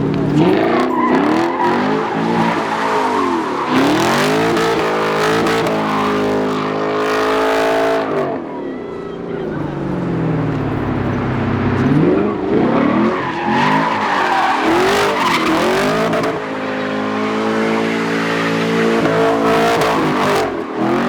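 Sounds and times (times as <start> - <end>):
car engine revving: 0.0 - 8.6, 9.3 - 21.0
tyres skidding and squealing: 0.0 - 21.0.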